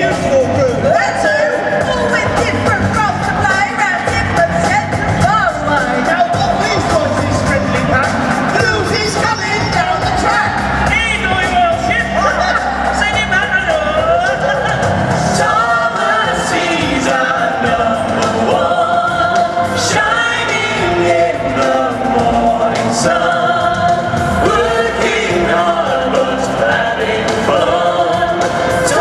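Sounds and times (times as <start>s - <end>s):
voices singing in a stage show: 0.0s - 29.0s.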